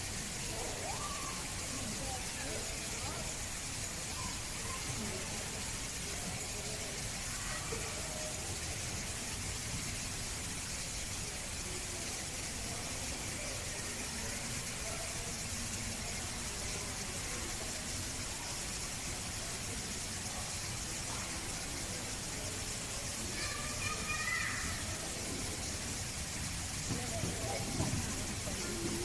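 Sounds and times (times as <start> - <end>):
background hiss: 0.0 - 29.0
faint indistinct voices: 0.0 - 29.0.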